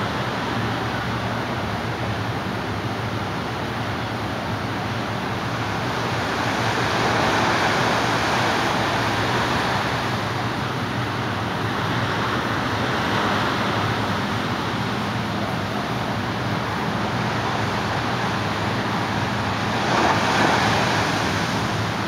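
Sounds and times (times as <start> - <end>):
motorboat engines droning: 0.0 - 22.0
surf washing onto beach: 0.0 - 22.0.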